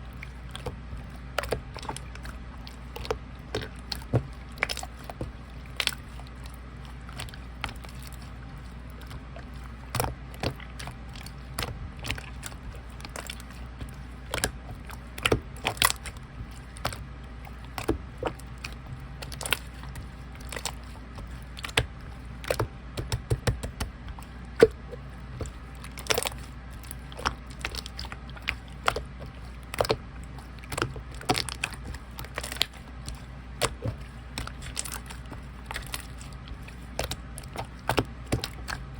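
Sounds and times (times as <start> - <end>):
slime squished by hand: 0.2 - 38.9.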